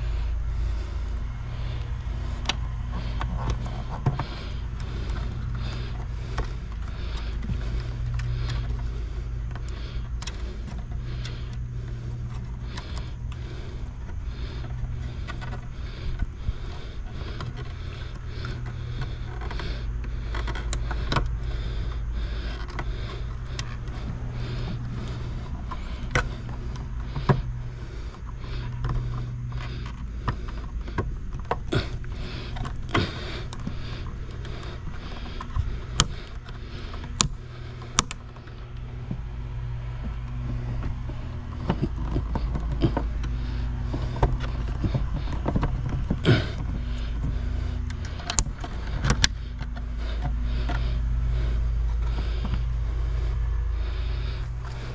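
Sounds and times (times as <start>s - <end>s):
steady low hum: 0.0s - 54.9s
wires and terminals clicking: 1.0s - 54.9s.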